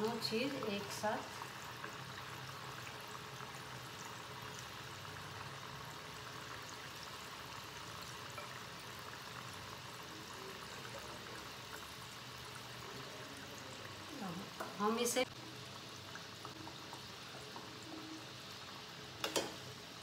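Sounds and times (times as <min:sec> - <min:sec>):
dough deep-frying in hot oil: 0:00.0 - 0:20.0.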